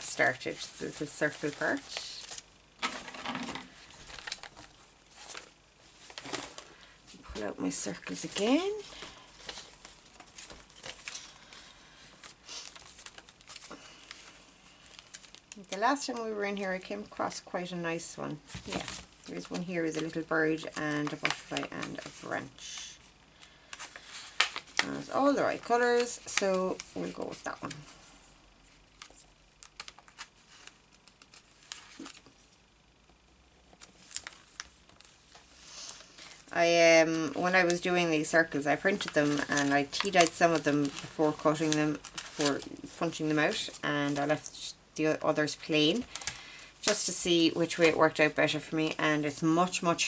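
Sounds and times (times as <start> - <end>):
paper crinkle: 0.1 - 17.3, 18.4 - 32.7, 33.6 - 50.0
paper rustling: 0.1 - 17.3, 18.4 - 32.6, 33.6 - 44.6, 45.2 - 50.0.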